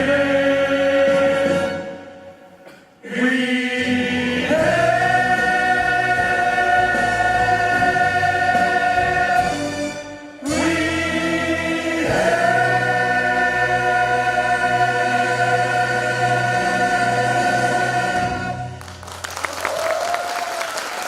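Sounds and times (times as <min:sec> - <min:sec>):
choir singing held chords: 0:00.0 - 0:18.8
musical accompaniment: 0:00.0 - 0:19.4.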